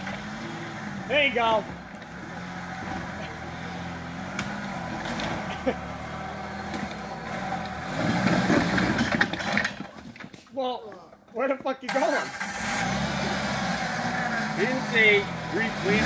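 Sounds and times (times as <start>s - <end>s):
engine running at low revs: 0.0s - 9.3s, 12.4s - 16.0s.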